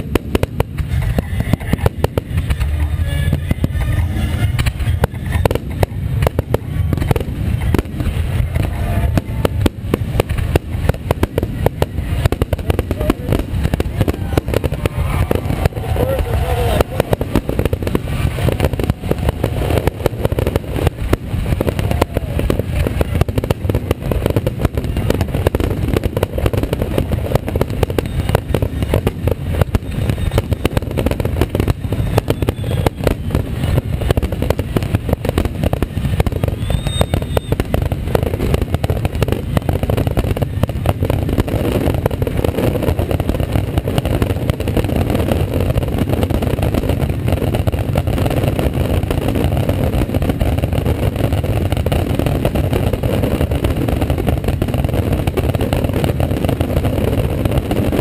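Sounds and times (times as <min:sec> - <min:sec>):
deep continuous rumble: 0:00.0 - 0:58.0
fireworks banging and crackling: 0:00.0 - 0:58.0.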